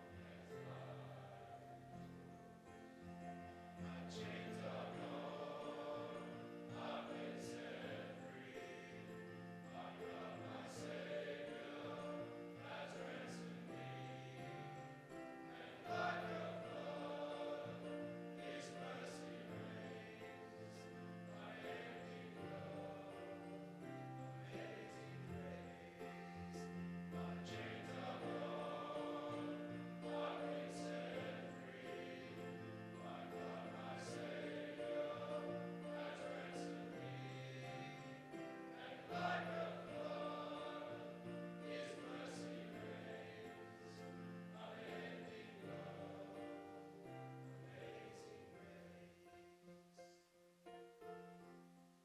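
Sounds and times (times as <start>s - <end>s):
choir-like singing voices: 0.0s - 49.6s.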